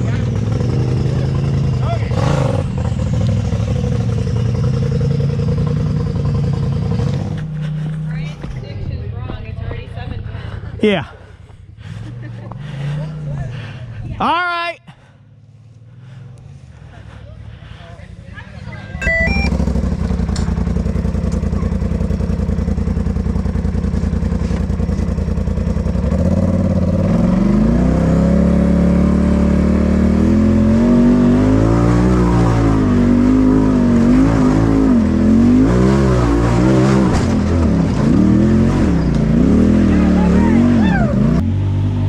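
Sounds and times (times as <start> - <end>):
off-road vehicle engine revving: 0.0 - 11.2, 11.8 - 14.2, 18.5 - 42.0.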